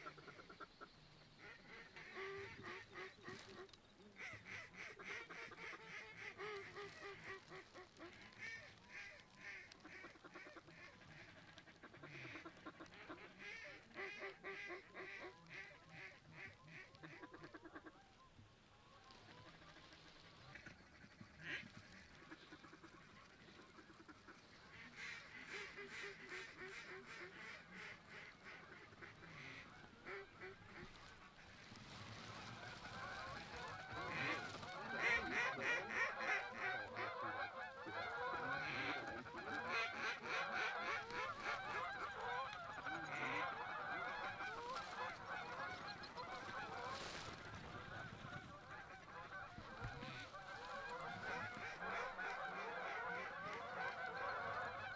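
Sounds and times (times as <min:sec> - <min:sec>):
flock of waterfowl calling: 0:00.0 - 0:54.9.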